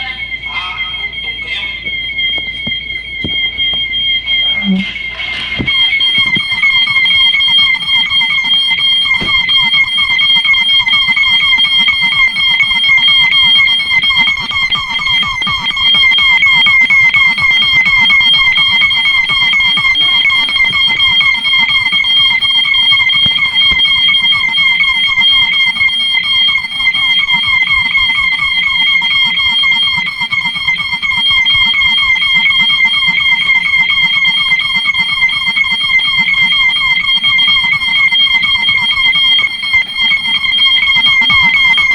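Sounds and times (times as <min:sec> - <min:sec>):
fire alarm sounders: 0:00.0 - 0:41.9.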